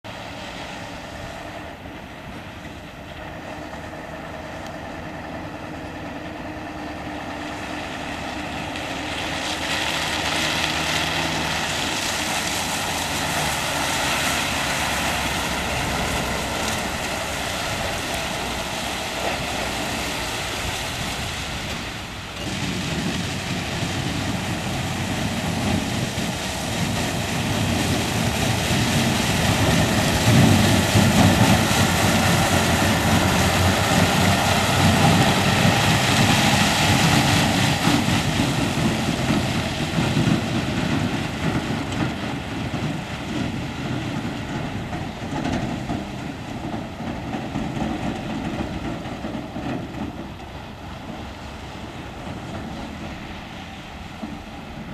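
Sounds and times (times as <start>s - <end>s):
diesel trucks driving past: 0.0s - 54.9s.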